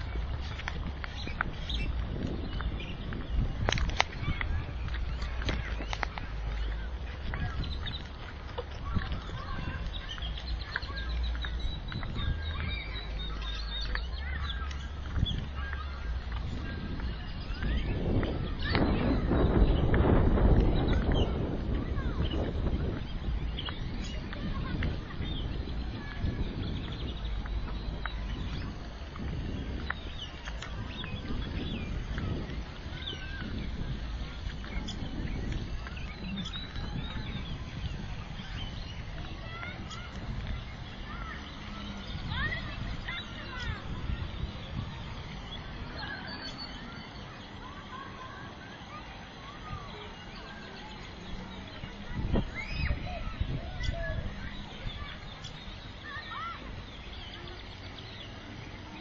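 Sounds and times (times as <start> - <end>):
low microphone rumble: 0.0 - 59.0
many birds chirping: 0.0 - 59.0.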